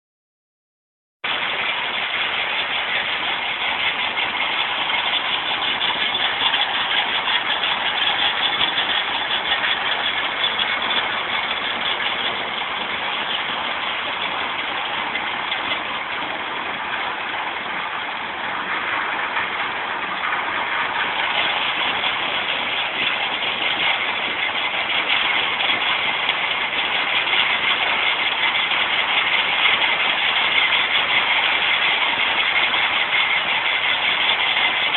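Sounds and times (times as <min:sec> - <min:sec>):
stone crusher machine running: 0:01.2 - 0:34.9.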